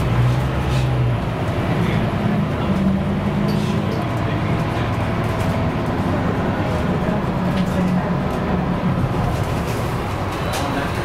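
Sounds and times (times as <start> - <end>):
bus diesel engine droning: 0.0 - 11.0
road noise: 0.0 - 11.0.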